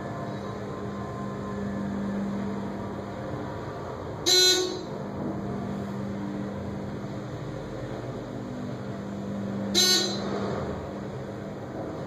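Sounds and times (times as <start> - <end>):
elevator low hum: 0.0 - 12.0.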